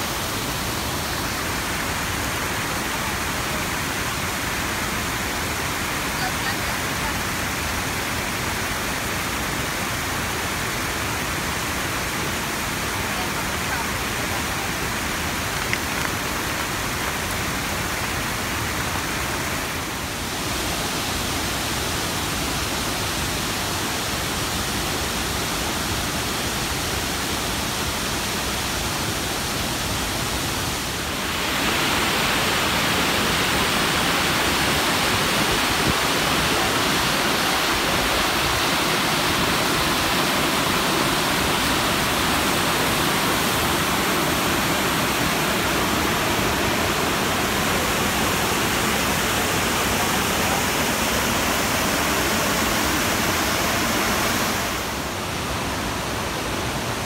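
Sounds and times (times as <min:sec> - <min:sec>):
rushing river rapids: 0:00.0 - 0:57.0.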